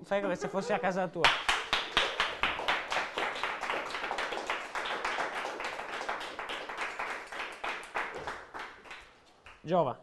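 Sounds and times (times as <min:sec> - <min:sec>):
small group applauding: 0:01.2 - 0:09.7.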